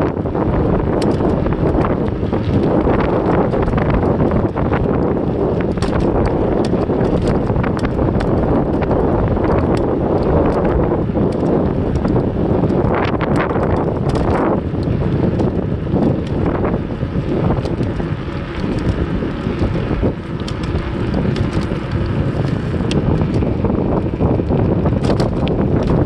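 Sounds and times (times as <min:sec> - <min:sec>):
small clicks and rattles: 0:00.0 - 0:26.0
wind buffeting microphone: 0:00.0 - 0:26.0.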